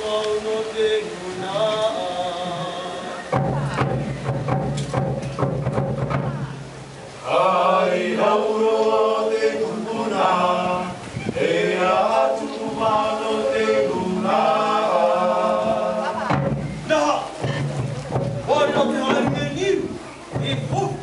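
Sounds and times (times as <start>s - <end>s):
voices chanting unaccompanied: 0.0s - 4.4s, 6.1s - 21.0s.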